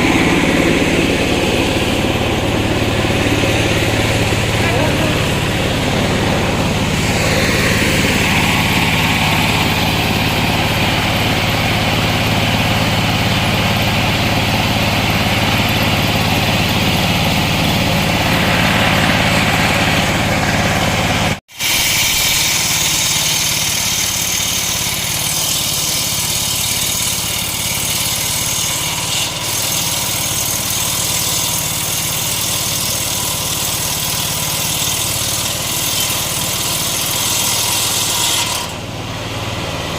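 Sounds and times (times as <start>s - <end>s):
engine-driven circular saw running: 0.0s - 39.9s.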